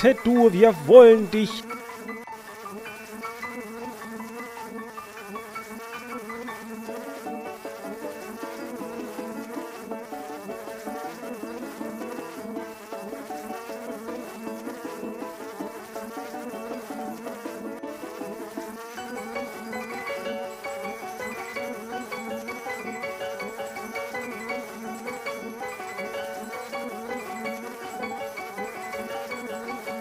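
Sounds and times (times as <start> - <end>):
cartoon wasp buzzing: 0.0 - 30.0
light music: 0.0 - 30.0.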